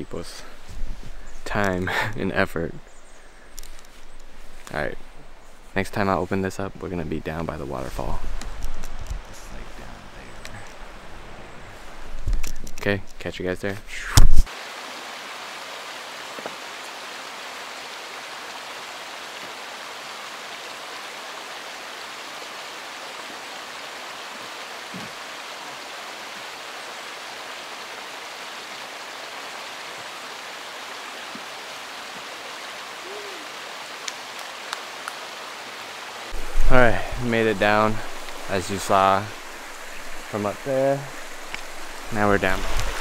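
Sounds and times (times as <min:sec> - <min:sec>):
creek water flowing: 0:00.0 - 0:43.0.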